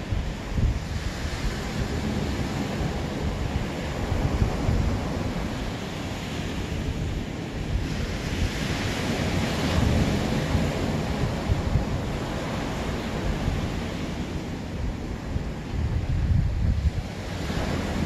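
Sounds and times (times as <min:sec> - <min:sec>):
ocean surf washing ashore: 0:00.0 - 0:18.0
wind buffeting microphone: 0:00.0 - 0:18.0.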